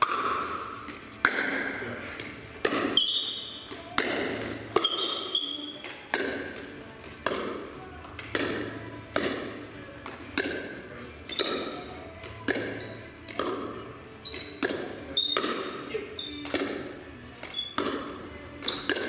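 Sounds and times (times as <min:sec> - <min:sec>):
ball bouncing: 0:00.0 - 0:19.0
paddles hitting plastic ball: 0:00.0 - 0:19.0.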